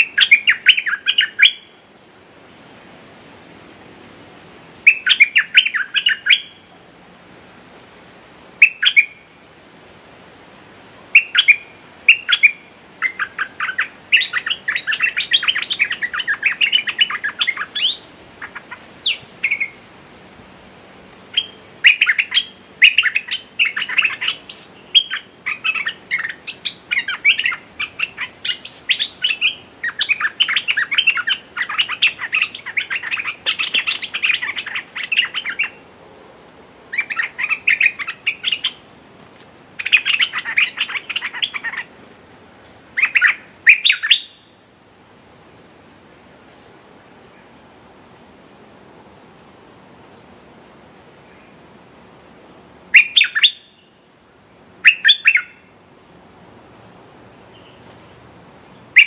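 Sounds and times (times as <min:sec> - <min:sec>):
birds chattering calls: 0:00.0 - 0:02.2, 0:03.1 - 0:59.0.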